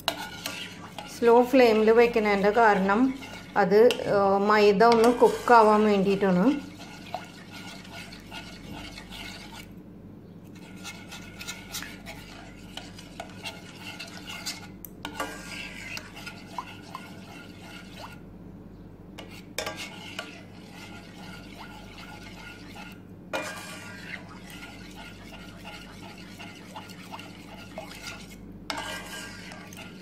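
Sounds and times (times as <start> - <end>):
metal spoon stirring in pan: 0.0 - 9.8, 10.4 - 18.3, 19.2 - 30.0.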